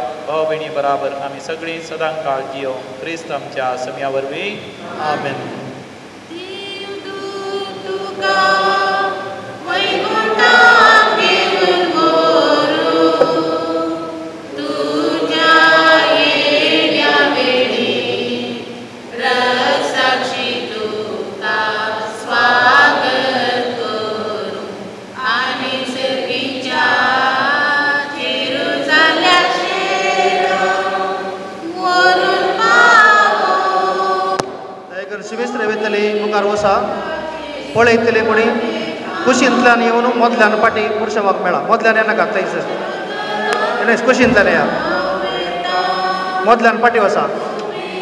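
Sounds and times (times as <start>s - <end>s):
group singing a hymn: 0.0s - 48.0s.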